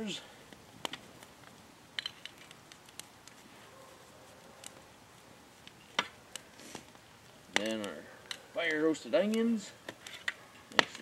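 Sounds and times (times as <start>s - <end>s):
wood fire crackling: 0.0s - 11.0s
sharp pops from fire: 0.4s - 3.6s, 4.4s - 11.0s.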